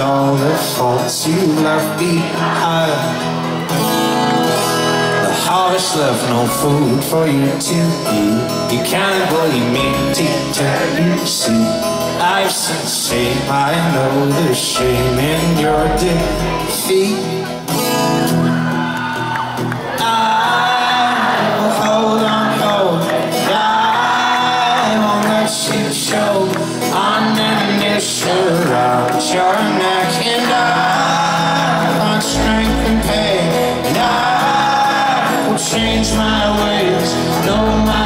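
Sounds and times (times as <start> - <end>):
person singing: 0.0 - 18.0, 19.8 - 38.0
folk-rock band playing: 0.0 - 38.0.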